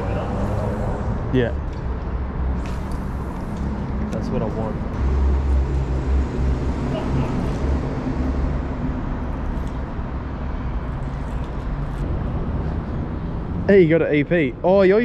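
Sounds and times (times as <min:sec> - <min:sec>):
low mechanical rumble: 0:00.0 - 0:13.9.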